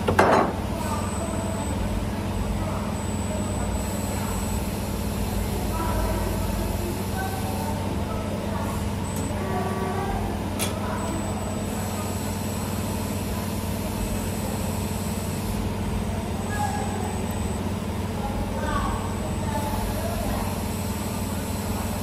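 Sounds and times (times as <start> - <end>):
motor hum: 0.0 - 22.0.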